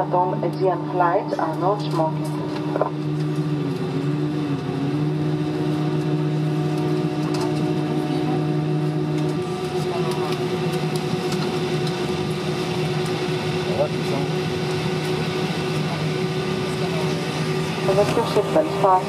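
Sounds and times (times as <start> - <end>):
aircraft cabin drone: 0.0 - 19.0
low steady hum: 0.0 - 19.0.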